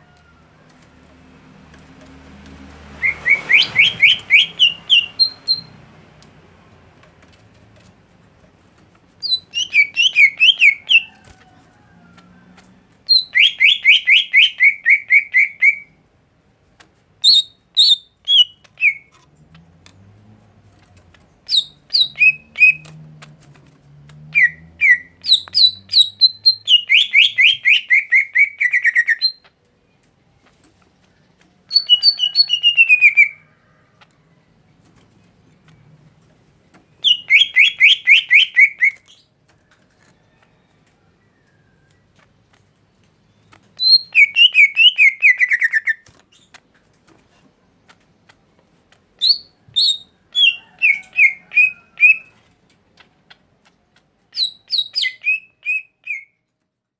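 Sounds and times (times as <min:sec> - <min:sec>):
songbird chirping: 0:00.0 - 0:06.3, 0:09.2 - 0:16.2, 0:17.2 - 0:56.6.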